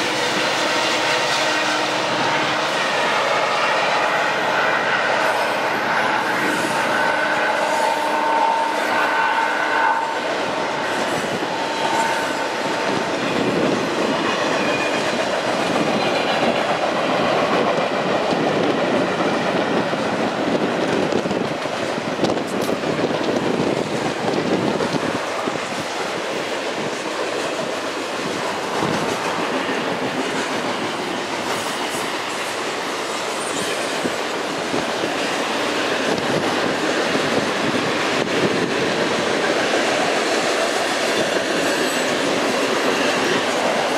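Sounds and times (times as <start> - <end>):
freight train rolling over bridge: 0.0 - 43.9.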